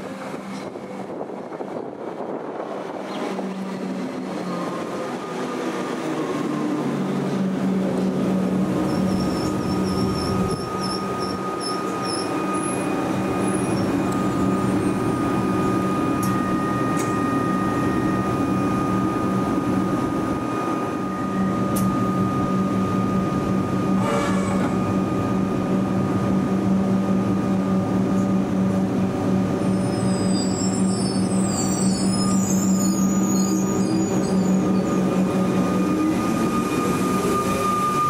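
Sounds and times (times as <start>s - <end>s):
electric train running past: 0.0s - 38.0s.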